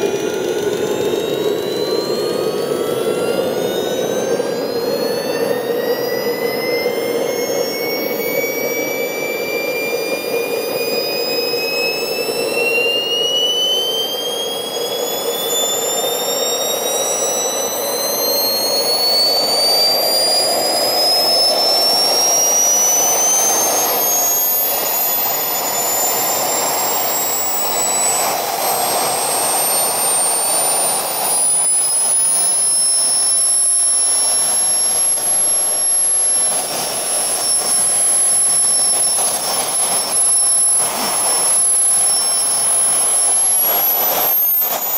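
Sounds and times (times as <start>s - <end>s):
jet turbine whine: 0.0s - 44.9s.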